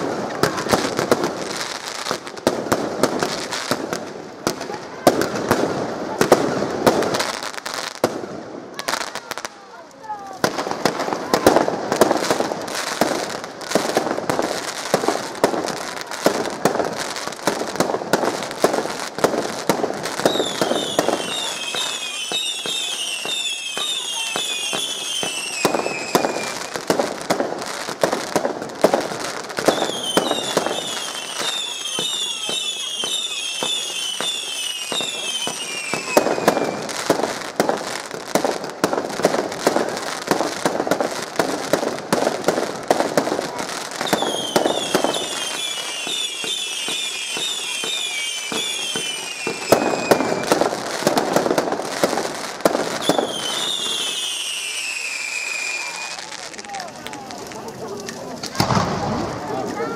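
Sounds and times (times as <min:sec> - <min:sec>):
fireworks crackling and popping: 0:00.0 - 0:59.9
whistling fireworks: 0:00.0 - 0:59.9.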